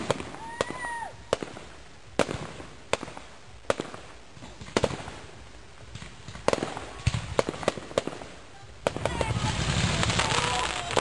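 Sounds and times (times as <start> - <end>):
faint fireworks crackling: 0.0 - 11.0
fireworks bangs: 0.0 - 11.0.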